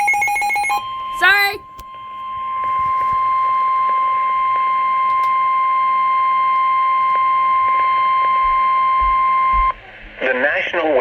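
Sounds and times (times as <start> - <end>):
steady alarm tone: 0.0 - 9.8.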